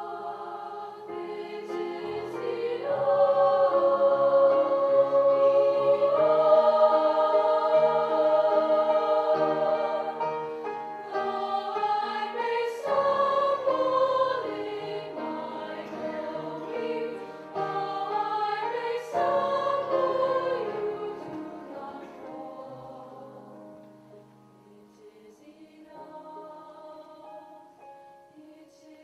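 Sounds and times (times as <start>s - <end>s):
piano accompaniment: 0.0s - 24.9s
choir of young women singing: 0.0s - 29.0s.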